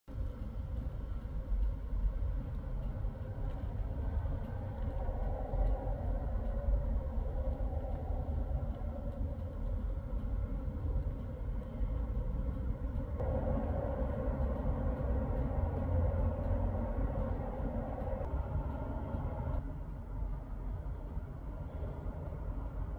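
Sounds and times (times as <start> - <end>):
faint engine hum: 0.1 - 22.9
road traffic rumble: 0.1 - 22.9.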